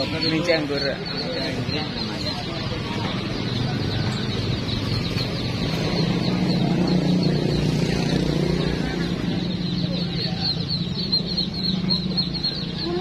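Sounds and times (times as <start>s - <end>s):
rapid high chirping: 0.0s - 13.0s
vehicle engine droning: 0.0s - 13.0s.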